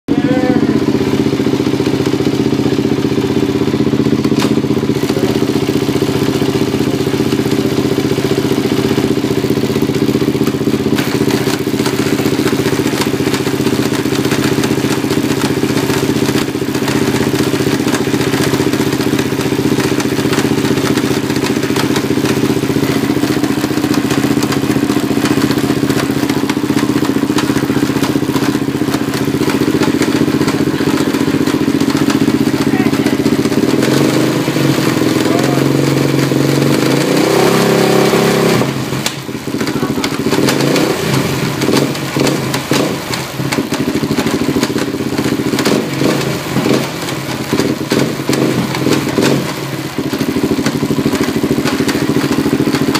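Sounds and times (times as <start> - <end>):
quad engine running: 0.0 - 52.9
rapid engine clattering: 0.0 - 52.9.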